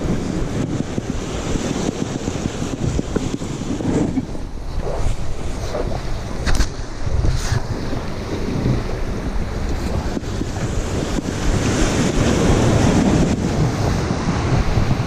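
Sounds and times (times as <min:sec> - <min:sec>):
surf washing against rocks: 0:00.0 - 0:15.0
wind buffeting microphone: 0:00.0 - 0:15.0.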